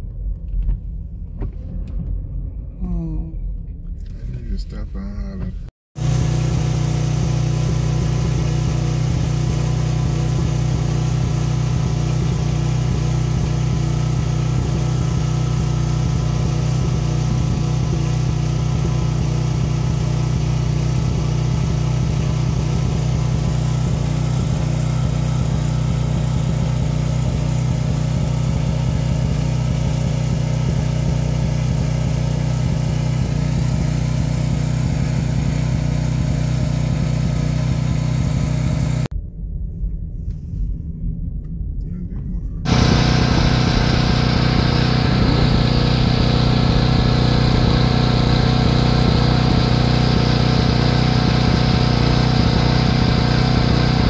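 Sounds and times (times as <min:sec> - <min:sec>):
car engine and road noise: 0:00.0 - 0:41.7, 0:42.6 - 0:54.0.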